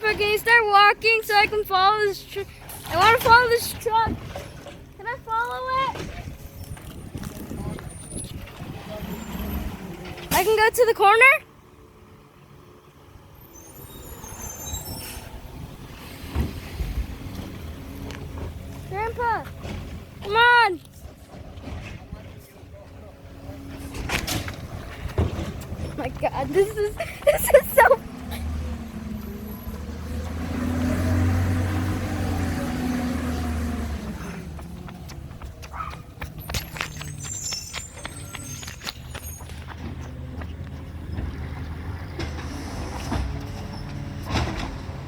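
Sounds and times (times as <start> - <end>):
garbage truck engine passing: 0.0 - 45.0.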